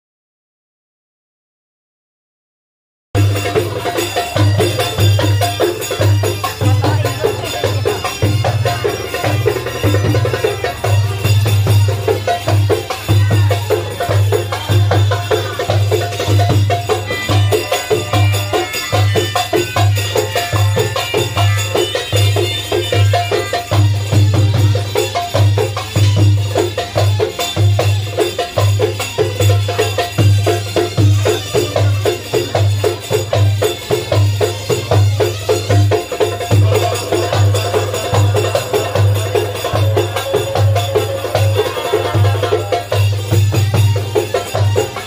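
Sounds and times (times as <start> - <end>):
hand drums playing a rhythm: 3.2 - 45.0.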